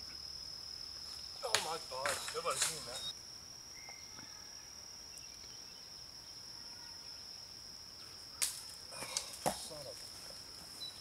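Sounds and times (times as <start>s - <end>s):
crickets trilling: 0.0s - 11.0s
faint outdoor background noise: 0.0s - 11.0s.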